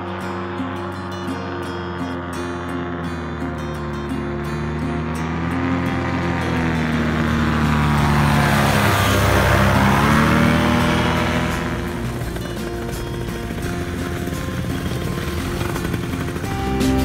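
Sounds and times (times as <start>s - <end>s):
light aircraft passing low: 0.0s - 17.0s.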